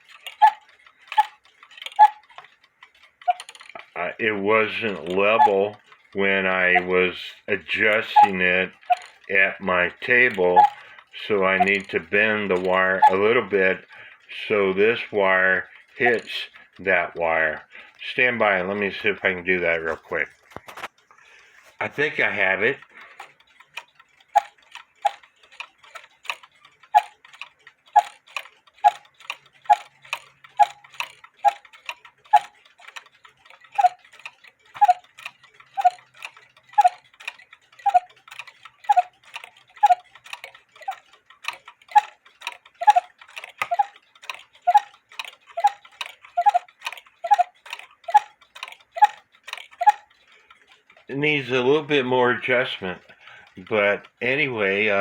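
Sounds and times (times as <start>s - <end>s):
clock pendulum ticking: 0.0s - 55.0s.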